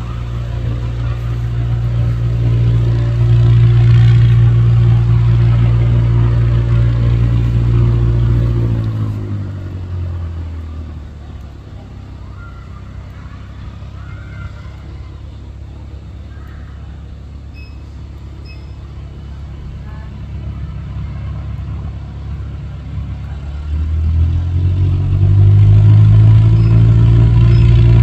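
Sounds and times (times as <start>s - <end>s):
propeller aircraft engine: 0.0s - 28.0s.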